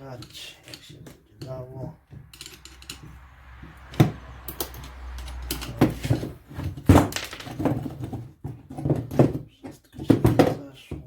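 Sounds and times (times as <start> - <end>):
tools and metal parts clattering: 0.0 - 11.0.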